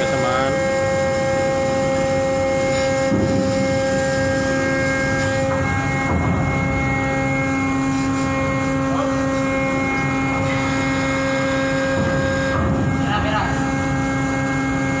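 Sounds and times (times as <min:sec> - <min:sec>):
constant multi-tone whine: 0:00.0 - 0:15.0
winch machinery hum: 0:00.0 - 0:15.0.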